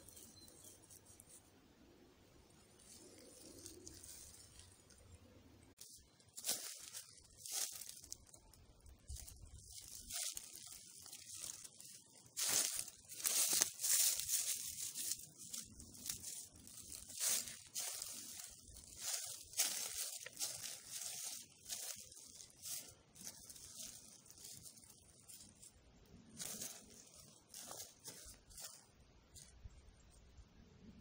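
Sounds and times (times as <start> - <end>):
leaves tearing and rustling: 2.7 - 5.1, 5.8 - 25.7, 26.3 - 29.5.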